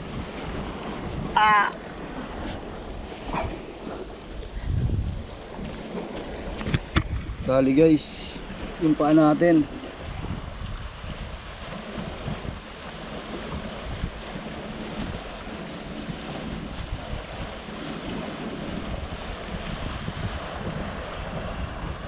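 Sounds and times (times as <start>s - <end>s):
sea surf against rocks: 0.0s - 22.0s
wind buffeting microphone: 0.0s - 22.0s.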